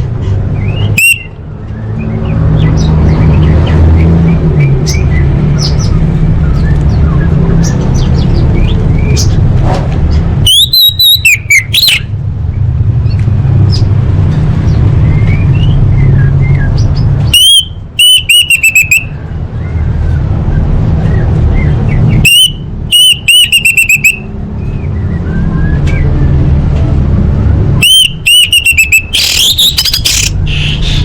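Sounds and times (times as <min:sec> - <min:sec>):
thrush whistled song: 0:00.6 - 0:09.2, 0:10.4 - 0:12.1, 0:15.0 - 0:26.4, 0:27.8 - 0:31.0.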